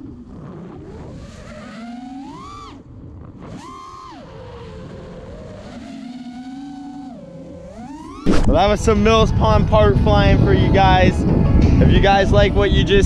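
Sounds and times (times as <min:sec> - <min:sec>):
quadcopter motors whining: 0:00.0 - 0:11.6.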